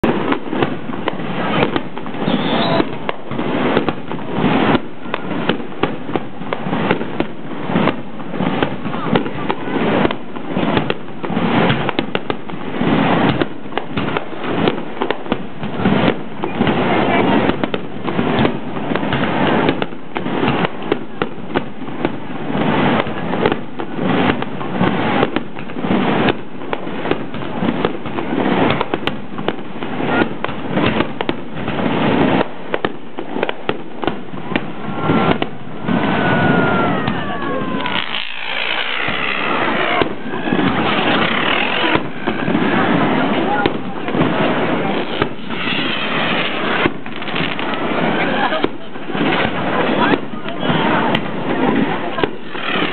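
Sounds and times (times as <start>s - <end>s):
fireworks bursting: 0.0s - 52.9s.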